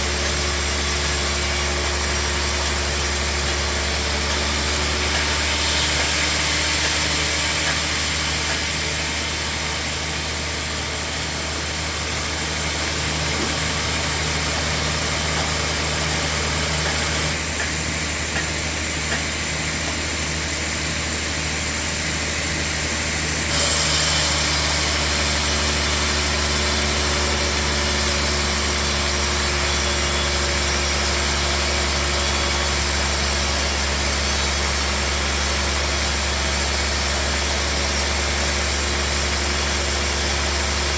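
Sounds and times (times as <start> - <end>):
band sawmill hum and hiss: 0.0 - 40.9.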